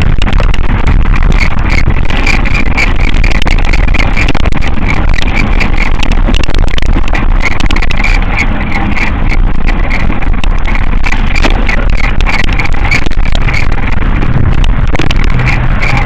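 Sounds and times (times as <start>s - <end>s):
bike clicking and rattling on dirt: 0.0s - 16.0s
wind rush on microphone: 0.0s - 16.0s.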